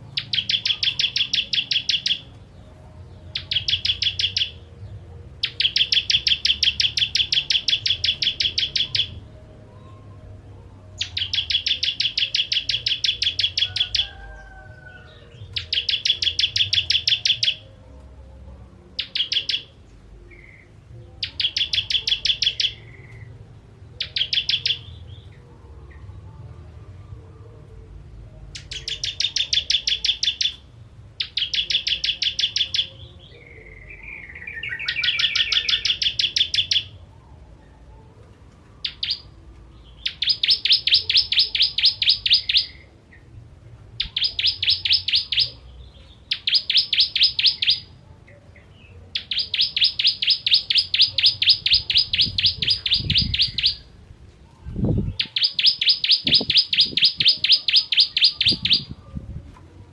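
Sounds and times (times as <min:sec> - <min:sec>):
prinia rapid chattering song: 0:00.0 - 0:26.2, 0:28.3 - 0:38.2, 0:38.8 - 0:59.3.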